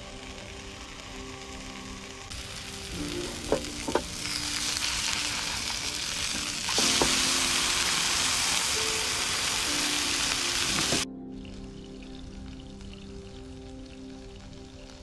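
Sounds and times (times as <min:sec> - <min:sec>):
burger patty sizzling: 0:00.0 - 0:15.0.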